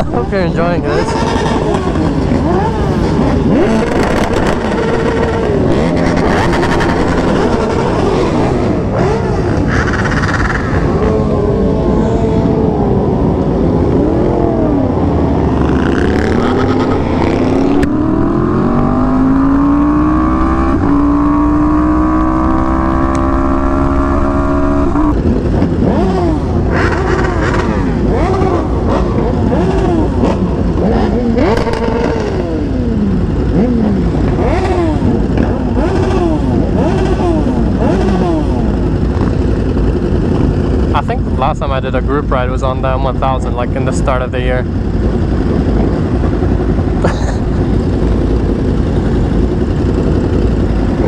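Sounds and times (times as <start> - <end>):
motorcycle accelerating hard: 0.0 - 51.0
motorcycles revving: 0.0 - 51.0.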